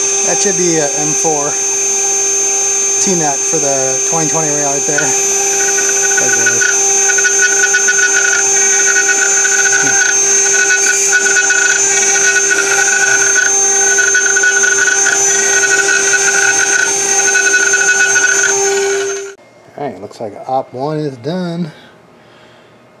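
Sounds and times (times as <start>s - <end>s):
milling spindle whine: 0.0s - 19.4s
ringing tool chatter squeal: 0.0s - 19.4s.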